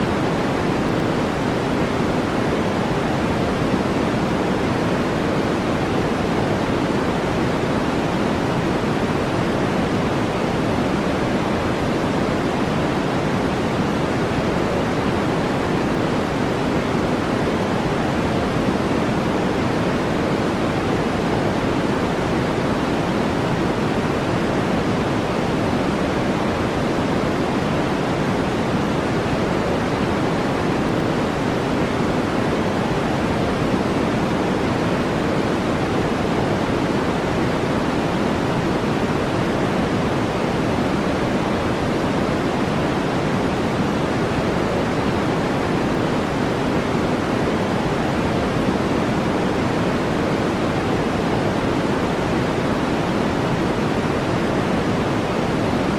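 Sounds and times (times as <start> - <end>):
deep brown noise rush: 0.0 - 55.9.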